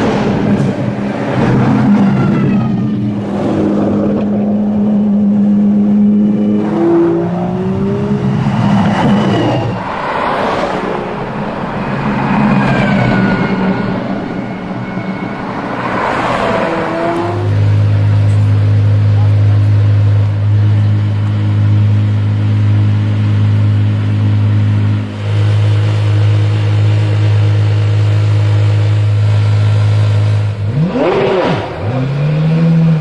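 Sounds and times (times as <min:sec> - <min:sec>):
sports cars driving past: 0:00.0 - 0:26.8.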